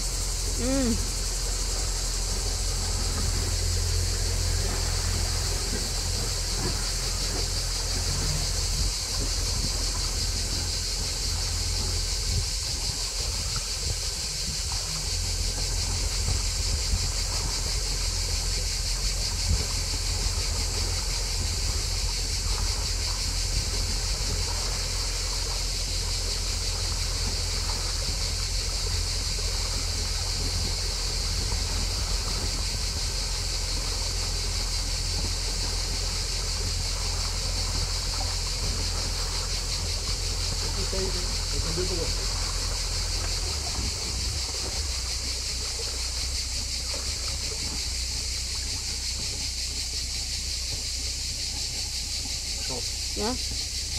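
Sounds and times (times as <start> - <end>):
boat engine hum: 0.0 - 53.9
cicadas singing: 0.0 - 53.9.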